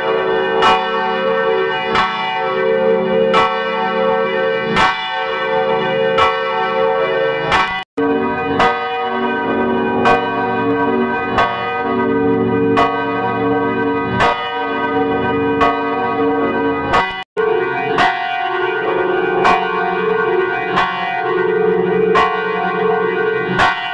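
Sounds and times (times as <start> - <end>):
church bell ringing: 0.0 - 23.9.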